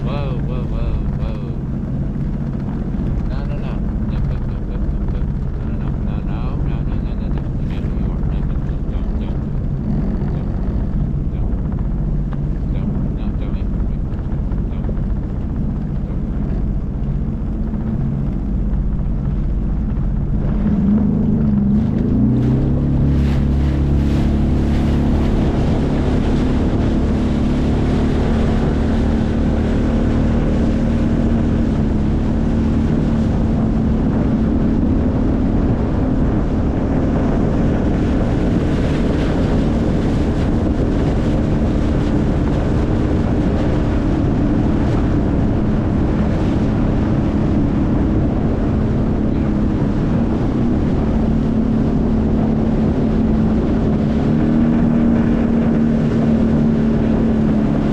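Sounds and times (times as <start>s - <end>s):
jet ski engine running: 0.0s - 57.9s
water rushing: 0.0s - 57.9s
wind buffeting microphone: 0.0s - 57.9s.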